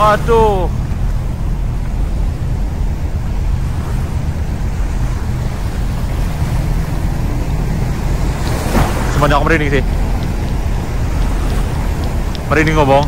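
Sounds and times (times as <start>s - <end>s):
sea surf washing up beach: 0.0s - 13.0s
wind rumbling on microphone: 0.0s - 13.0s.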